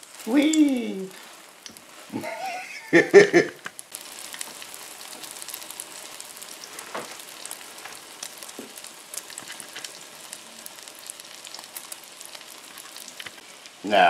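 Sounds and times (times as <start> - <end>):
omelette sizzling with crackles: 0.0 - 14.0.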